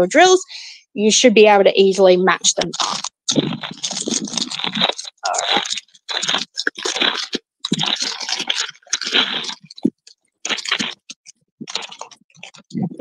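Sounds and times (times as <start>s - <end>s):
plastic wrapping crinkling: 2.6s - 13.0s.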